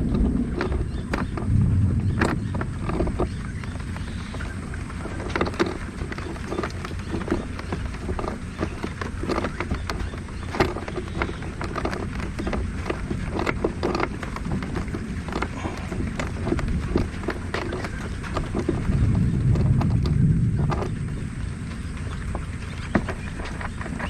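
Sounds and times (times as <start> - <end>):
clicks and knocks: 0.0 - 24.0
wind rumble on microphone: 0.0 - 24.0.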